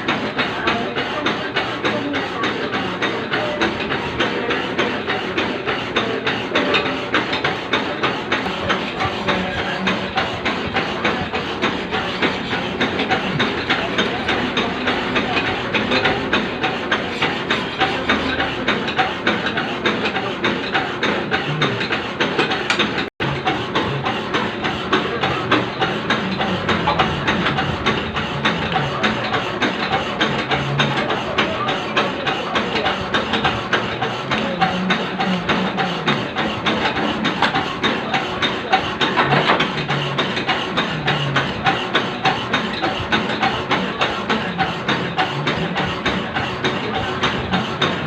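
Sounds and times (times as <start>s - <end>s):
machine tool cutting metal: 0.0s - 48.0s.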